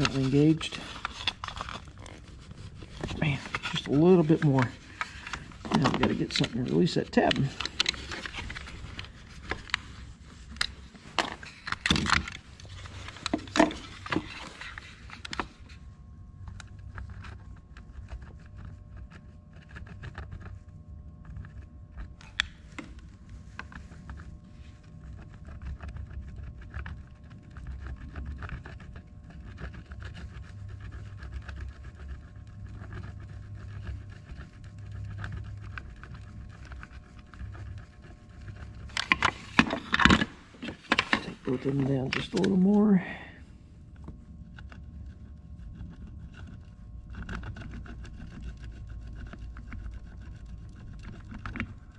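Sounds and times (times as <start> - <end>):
low electrical hum: 0.0 - 51.9.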